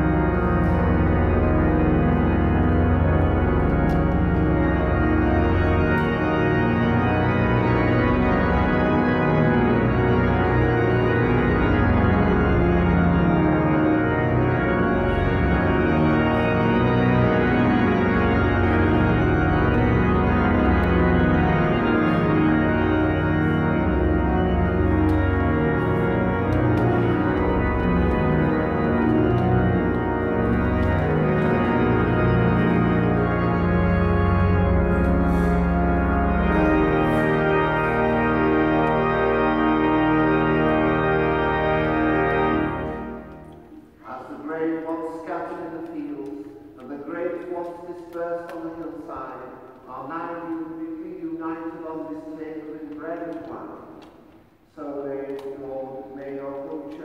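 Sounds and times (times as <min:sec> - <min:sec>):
pipe organ playing slow chords: 0:00.0 - 0:57.0.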